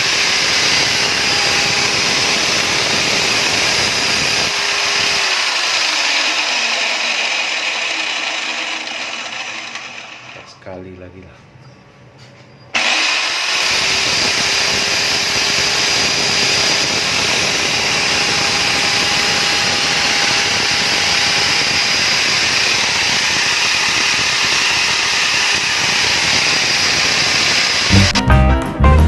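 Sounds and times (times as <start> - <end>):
core drill motor whining: 0.0 - 10.5, 12.8 - 27.9.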